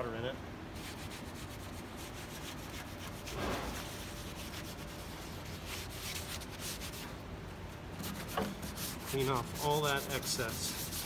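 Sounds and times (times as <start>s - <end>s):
damp cloth rubbing on wood: 0.8s - 7.2s, 8.0s - 11.0s.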